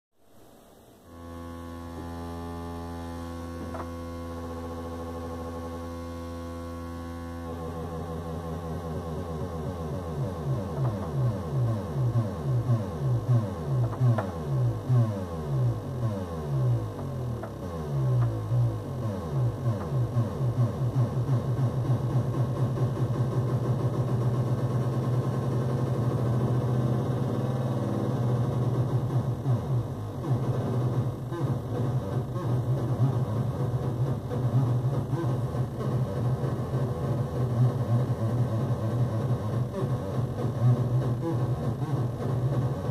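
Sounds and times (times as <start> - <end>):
synthesizer buzzing drone: 0.3 - 42.9.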